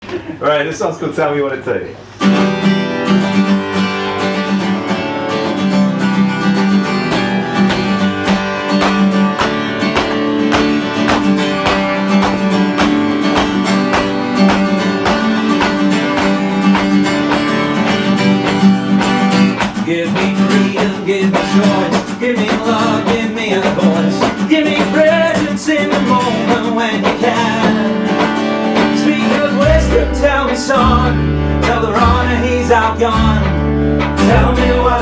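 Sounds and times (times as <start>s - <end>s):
acoustic guitar strumming: 2.1s - 35.0s.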